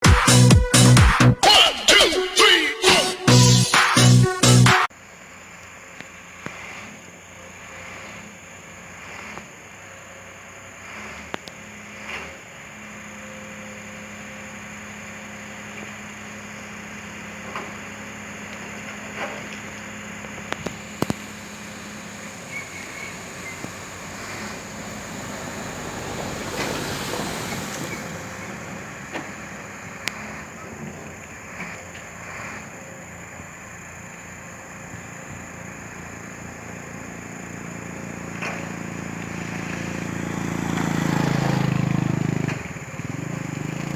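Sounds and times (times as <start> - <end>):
excavator diesel engine running: 6.5 - 33.7, 34.4 - 43.9.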